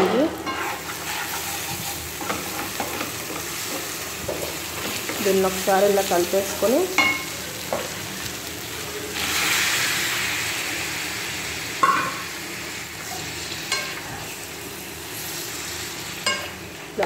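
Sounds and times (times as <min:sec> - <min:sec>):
onions sizzling in a frying pan: 0:00.0 - 0:17.0.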